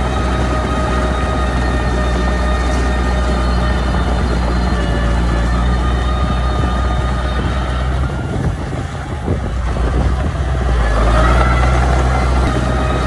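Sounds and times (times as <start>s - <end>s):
bulldozer diesel engine rumbling: 0.0s - 13.0s
steady engine whine: 0.0s - 13.0s.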